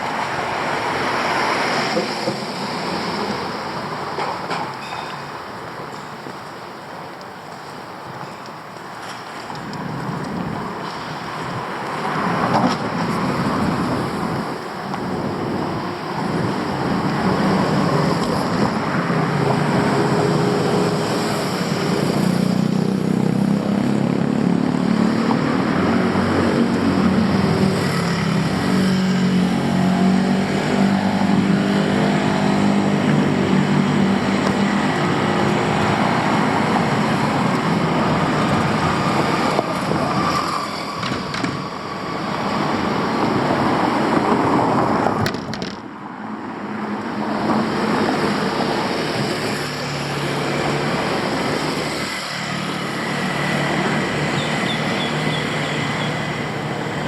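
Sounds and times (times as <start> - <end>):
street traffic noise: 0.0 - 57.0.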